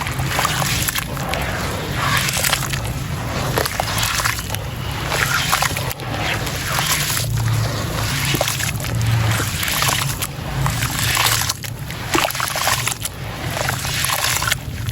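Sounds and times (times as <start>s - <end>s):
water splashing and trickling: 0.0s - 14.9s.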